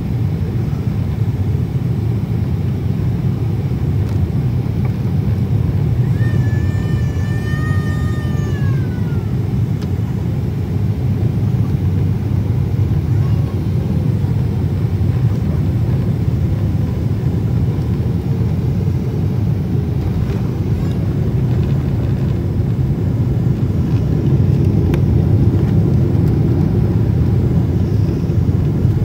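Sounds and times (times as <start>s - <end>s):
aircraft rumble on runway: 0.0s - 29.0s.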